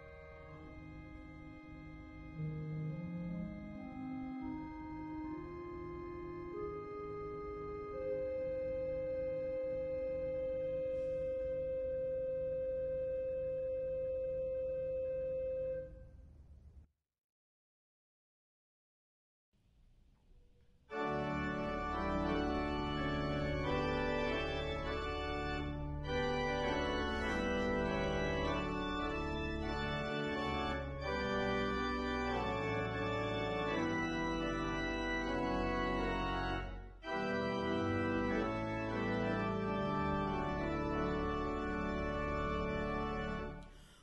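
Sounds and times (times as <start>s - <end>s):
church organ playing chords: 0.0s - 16.0s, 20.9s - 43.8s.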